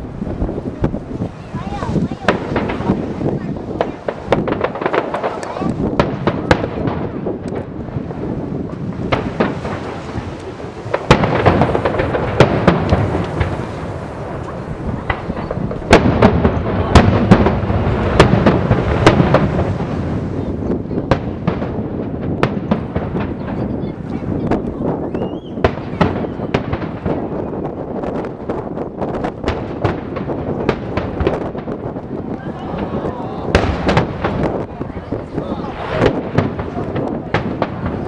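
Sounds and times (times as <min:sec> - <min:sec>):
rumble of firework bursts: 0:00.0 - 0:38.0
sharp firework cracks: 0:00.0 - 0:38.0.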